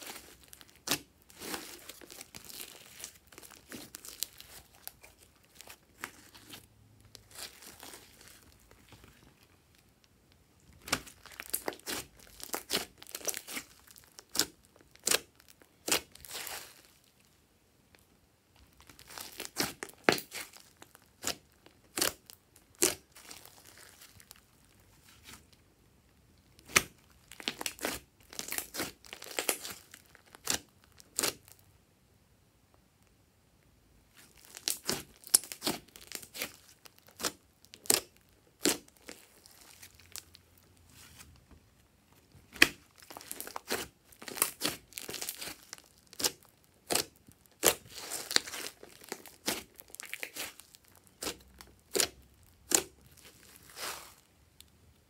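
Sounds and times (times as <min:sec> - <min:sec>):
sticky slime crackles and pops: 0:00.0 - 0:09.9, 0:10.6 - 0:17.3, 0:18.6 - 0:25.6, 0:26.4 - 0:31.7, 0:34.1 - 0:41.6, 0:42.2 - 0:54.7.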